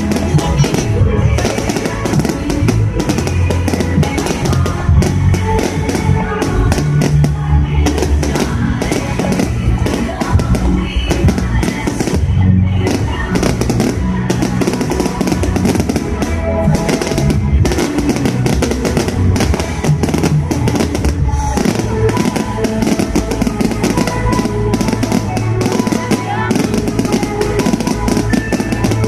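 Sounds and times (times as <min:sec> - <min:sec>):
fireworks bursting and crackling: 0:00.0 - 0:29.0
music with bass and drums: 0:00.0 - 0:29.0.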